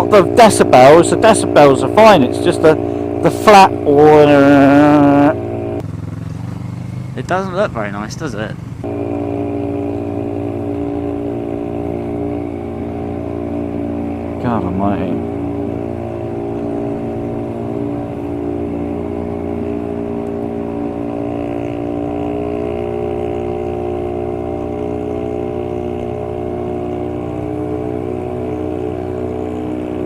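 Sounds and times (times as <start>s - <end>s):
motorcycle engine droning: 0.0s - 30.0s.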